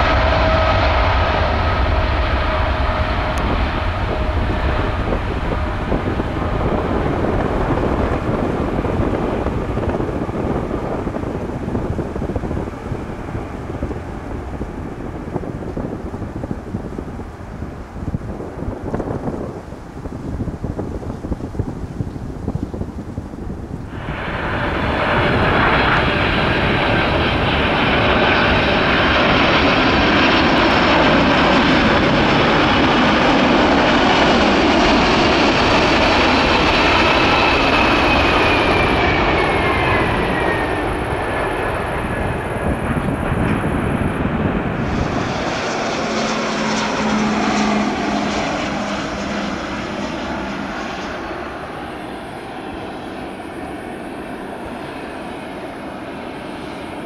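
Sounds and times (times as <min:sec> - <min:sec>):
jet plane landing: 0:00.0 - 0:57.0.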